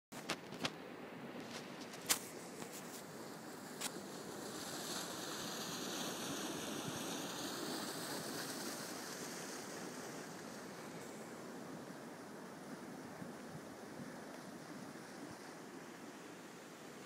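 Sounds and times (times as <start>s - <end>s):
river water rushing: 0.8s - 17.0s.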